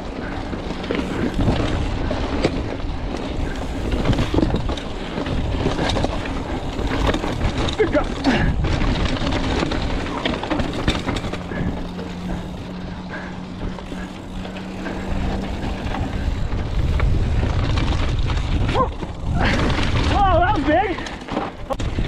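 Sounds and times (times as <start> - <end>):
steady hum: 0.0 - 17.8
bike rattling over rocks: 0.0 - 22.0
bike tyres rolling over dirt: 0.0 - 22.0
wind rumble on microphone: 0.0 - 22.0.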